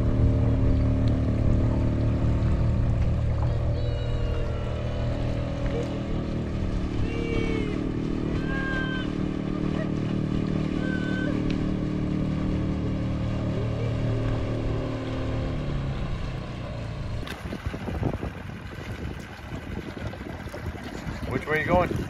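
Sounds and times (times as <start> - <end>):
outboard motor running: 0.0 - 22.0
water splashing: 0.0 - 22.0
wind: 0.0 - 22.0.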